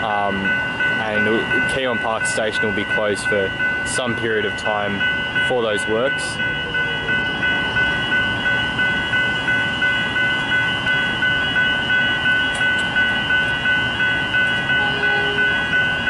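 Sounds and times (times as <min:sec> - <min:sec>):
level crossing bell ringing: 0:00.0 - 0:16.0
train running: 0:00.0 - 0:16.0.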